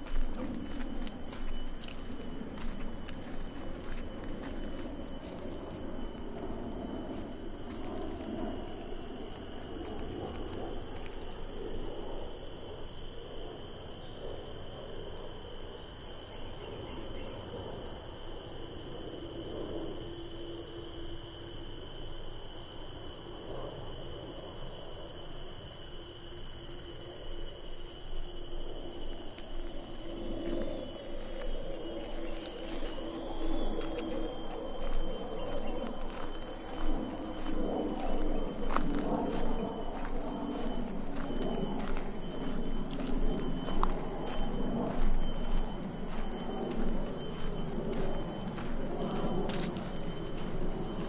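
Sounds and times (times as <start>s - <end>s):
lower steady tone: 0.0s - 15.3s, 16.0s - 51.0s
fast repeating insect chirp: 0.0s - 51.0s
insects droning: 0.0s - 51.0s.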